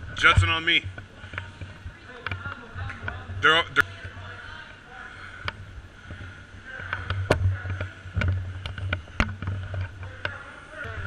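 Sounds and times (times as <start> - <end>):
low rumble of movement: 0.0 - 11.0.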